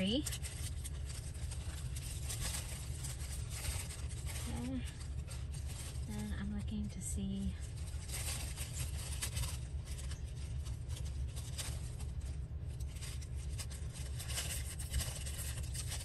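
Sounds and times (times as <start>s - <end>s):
paper rustling: 0.0s - 16.0s
steady low hum: 0.0s - 16.0s.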